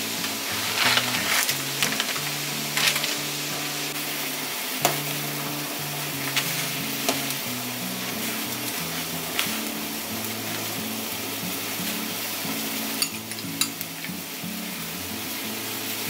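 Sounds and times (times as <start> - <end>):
broth boiling in a pot: 0.0 - 16.0.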